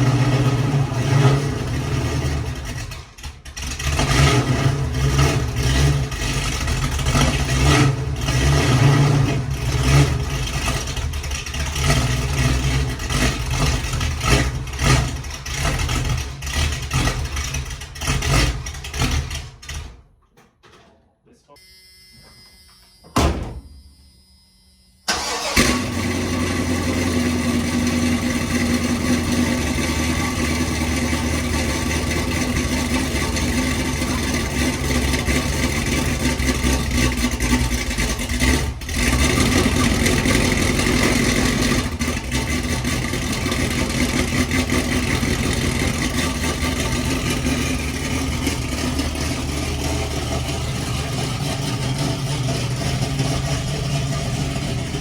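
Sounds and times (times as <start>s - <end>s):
car engine starting and running: 0.0s - 20.2s, 21.6s - 55.0s.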